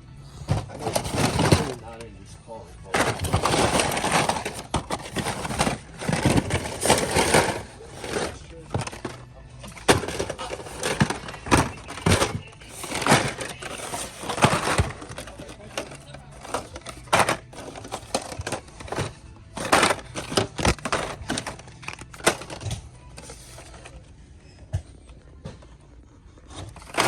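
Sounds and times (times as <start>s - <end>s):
plastic toy packages clattering: 0.4s - 27.0s.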